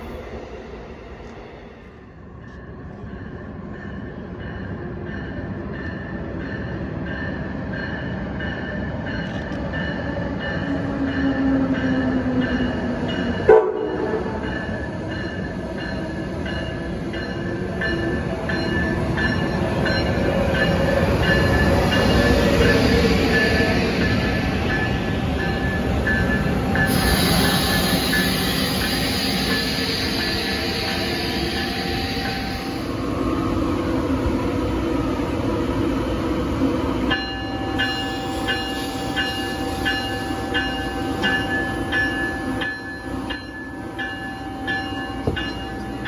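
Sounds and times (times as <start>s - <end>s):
locomotive bell ringing: 2.5s - 32.9s, 37.1s - 46.0s
electric locomotive running: 2.5s - 46.0s.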